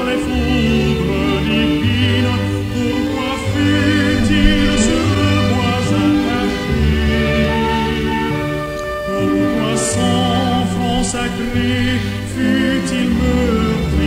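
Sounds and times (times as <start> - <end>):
choir singing held notes: 0.0 - 14.0
sustained bass: 1.0 - 14.0.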